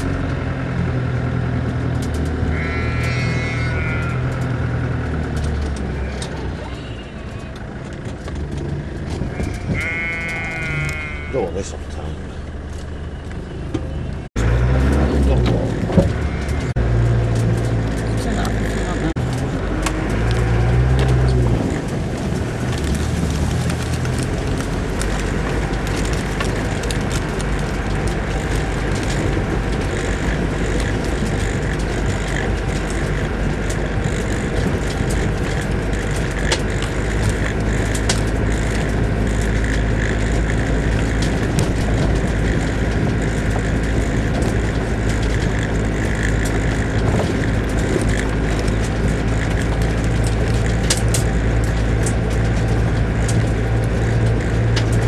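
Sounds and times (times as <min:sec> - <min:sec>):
vehicle engine running: 0:00.0 - 0:55.0
vehicle knocks and rattles: 0:00.0 - 0:55.0.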